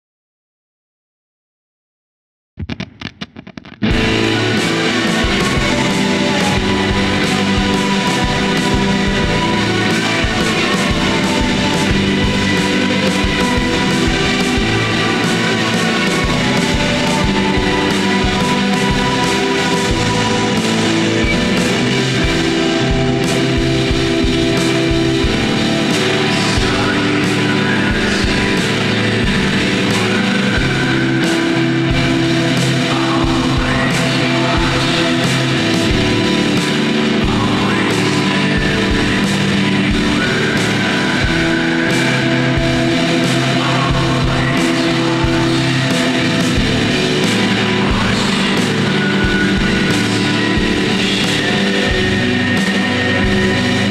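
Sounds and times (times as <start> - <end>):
distorted electric guitars: 2.6 - 53.9
drum beat: 3.9 - 53.9.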